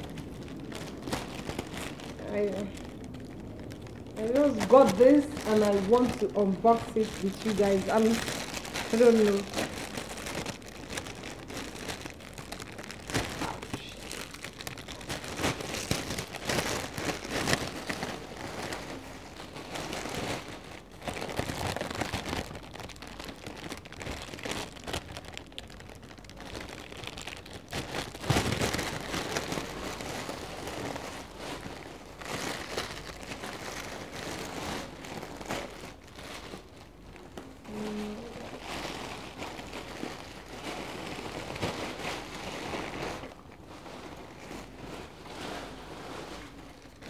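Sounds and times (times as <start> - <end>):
plastic bag crinkling: 0.0 - 47.0.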